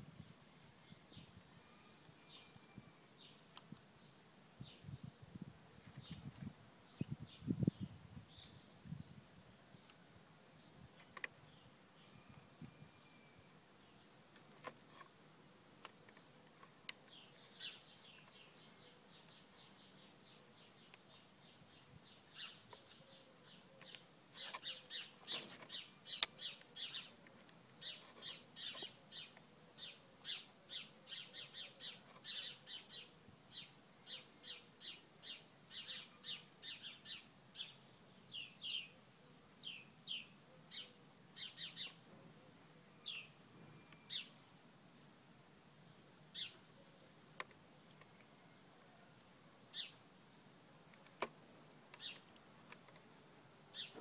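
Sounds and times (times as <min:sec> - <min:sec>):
small birds chirping: 0:00.1 - 0:45.0, 0:45.8 - 0:54.0.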